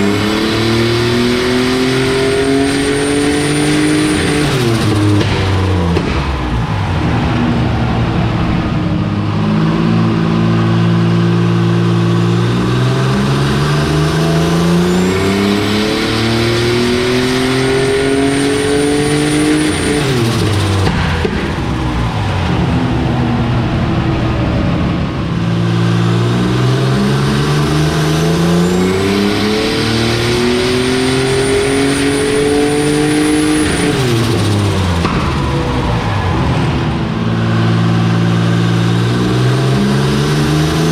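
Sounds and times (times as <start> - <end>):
car engine revving at full throttle: 0.0 - 40.9.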